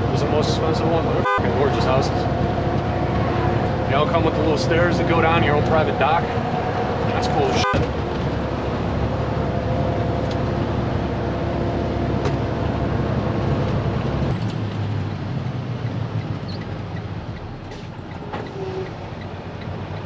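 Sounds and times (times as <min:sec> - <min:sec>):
road noise: 0:00.0 - 0:20.0
truck engine from inside cab: 0:00.0 - 0:20.0.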